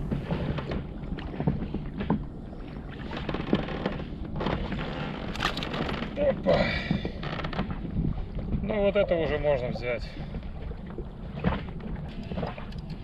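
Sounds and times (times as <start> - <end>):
water sounds: 0.0 - 13.0
wind on microphone: 0.0 - 13.0.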